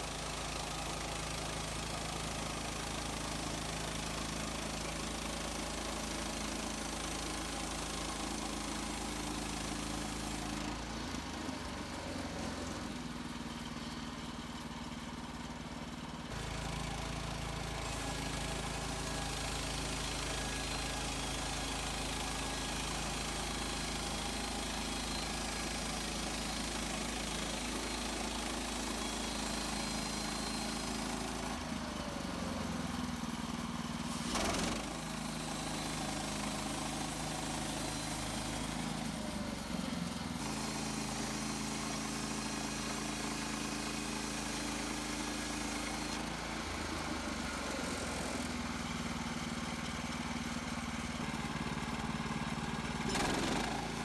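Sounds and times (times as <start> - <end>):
sawmill petrol engine running: 0.0 - 54.0.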